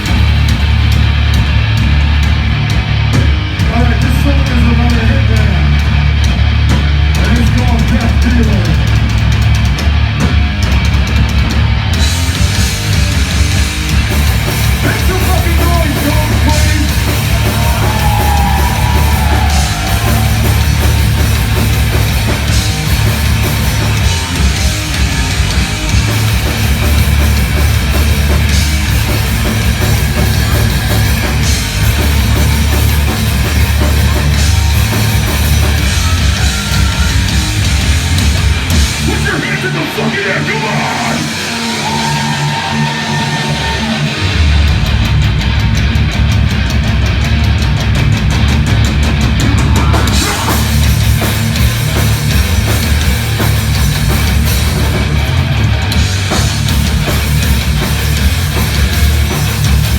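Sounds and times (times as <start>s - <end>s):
drums: 0.0s - 59.9s
heavy metal band playing live: 0.0s - 59.9s.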